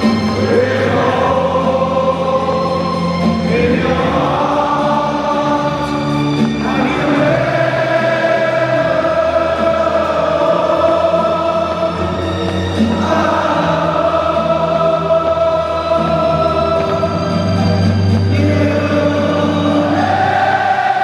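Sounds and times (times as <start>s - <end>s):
choir singing held notes: 0.0s - 21.0s.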